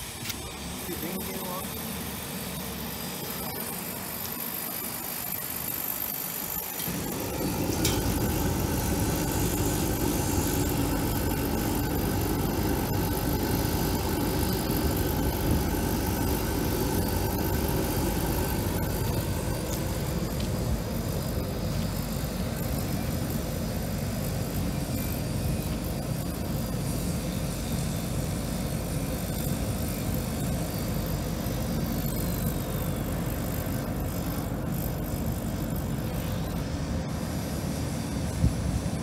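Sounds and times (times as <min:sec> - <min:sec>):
jet heater burner roaring: 0:00.0 - 0:39.0.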